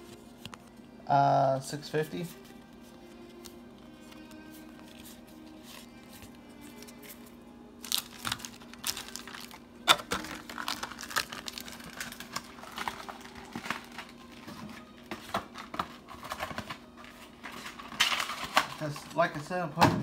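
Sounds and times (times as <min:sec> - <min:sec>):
foil wrappers crinkling: 0:01.6 - 0:19.5.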